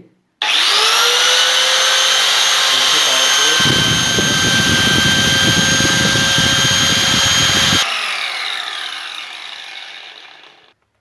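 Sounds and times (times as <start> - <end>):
angle grinder whine: 0.4 - 10.8.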